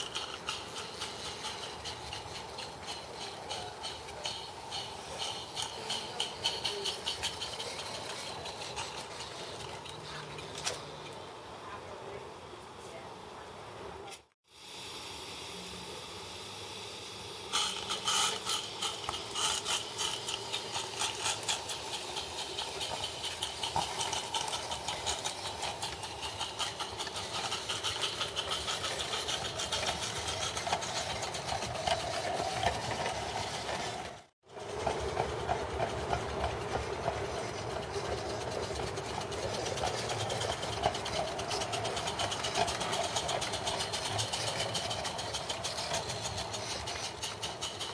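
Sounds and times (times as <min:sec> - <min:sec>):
steam locomotive chuffing: 0:00.0 - 0:12.2, 0:14.5 - 0:47.9
steam locomotive hissing: 0:00.0 - 0:47.9.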